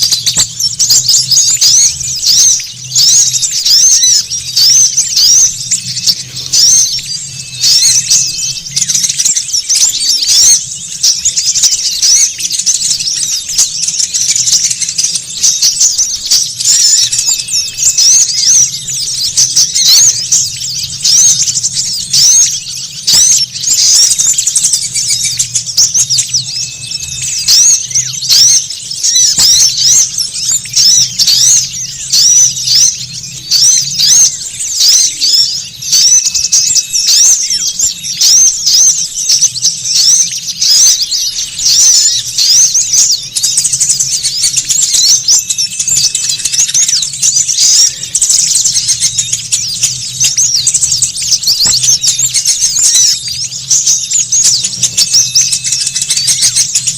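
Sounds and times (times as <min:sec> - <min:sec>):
small birds chattering: 0:00.0 - 0:56.9.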